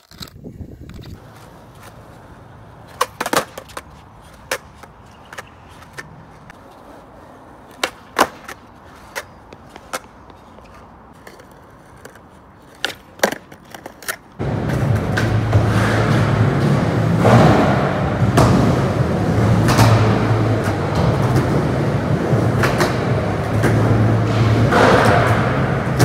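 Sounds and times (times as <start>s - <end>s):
skateboard clacking on ground: 0.0s - 26.0s
skateboard rolling on concrete: 0.0s - 26.0s.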